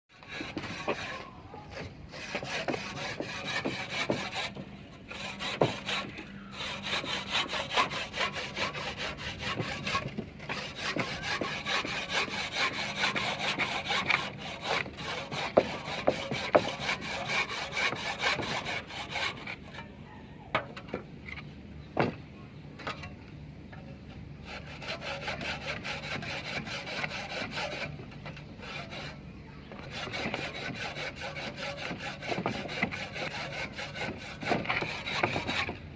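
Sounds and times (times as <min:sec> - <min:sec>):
saw cutting through brick: 0:00.1 - 0:19.7, 0:24.4 - 0:29.2, 0:29.8 - 0:35.8.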